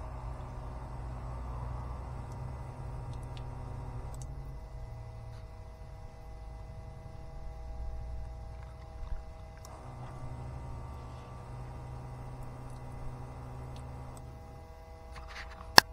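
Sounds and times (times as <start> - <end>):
electric pump humming: 0.0 - 15.9.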